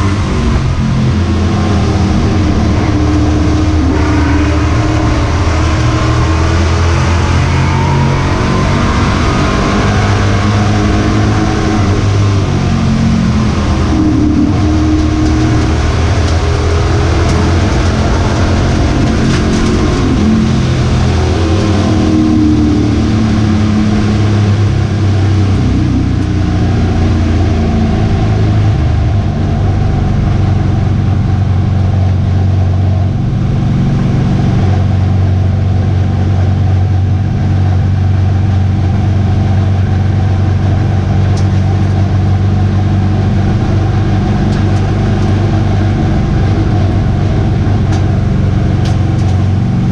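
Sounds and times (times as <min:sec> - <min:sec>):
truck engine revving at racing speed: 0:00.0 - 0:49.9.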